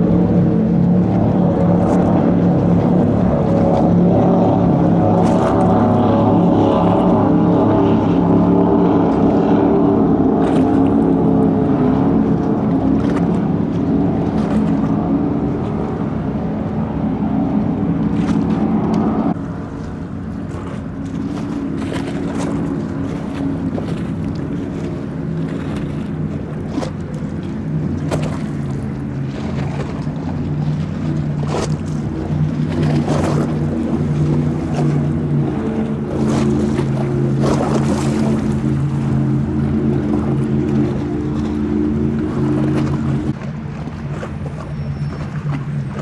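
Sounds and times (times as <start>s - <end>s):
powerboat engines droning: 0.0s - 46.0s
wind on microphone: 0.0s - 46.0s.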